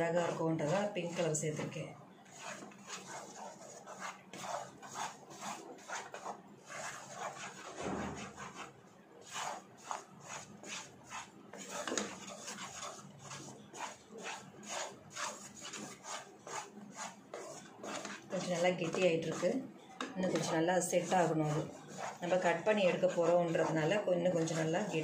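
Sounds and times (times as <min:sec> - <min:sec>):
wooden spatula scraping a pan: 0:00.0 - 0:25.0.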